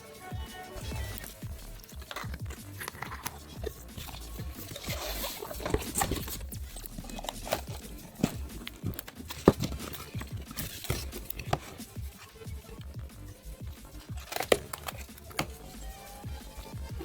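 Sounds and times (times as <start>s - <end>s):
computer parts clicking and tapping: 0.0s - 17.0s.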